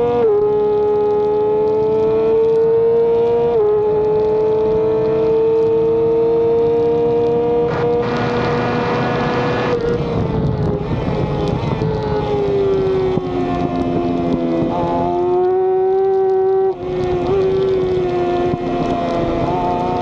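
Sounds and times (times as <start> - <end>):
racing motorcycle engine revving: 0.0 - 20.0
wind noise: 0.0 - 20.0.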